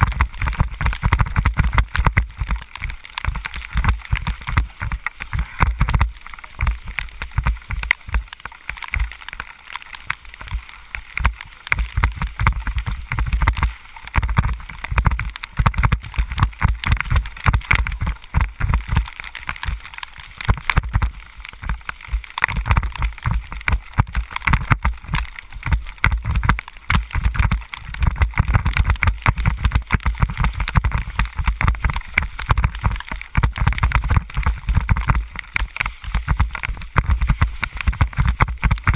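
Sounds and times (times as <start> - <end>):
wet hiss of rain and spray: 0.0 - 38.9.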